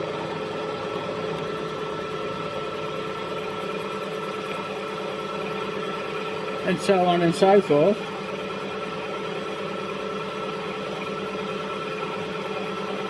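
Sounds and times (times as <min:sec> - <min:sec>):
machine tool motor and gear hum: 0:00.0 - 0:13.0.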